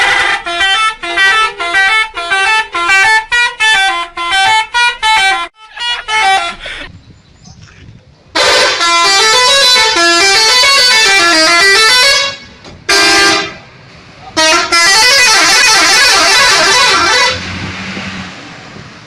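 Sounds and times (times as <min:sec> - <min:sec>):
bus musical horn playing: 0:00.0 - 0:06.9, 0:08.4 - 0:18.3.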